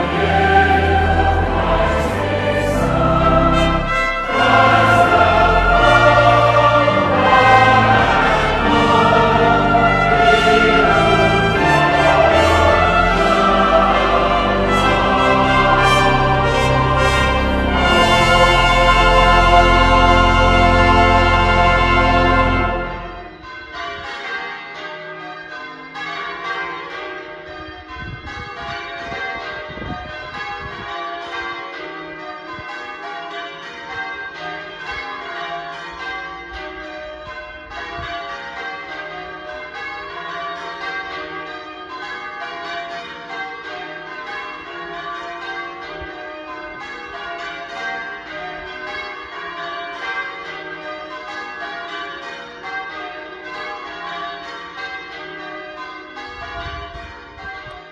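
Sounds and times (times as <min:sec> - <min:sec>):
church bells ringing: 0:00.0 - 0:57.9.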